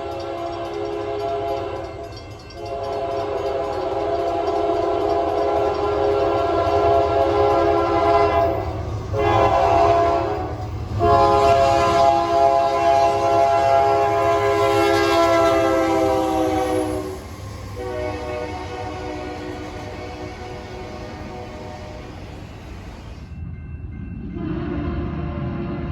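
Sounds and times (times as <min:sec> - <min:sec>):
locomotive air horn blasts: 0:00.0 - 0:01.9, 0:02.6 - 0:22.4
low train rumble: 0:00.0 - 0:25.9.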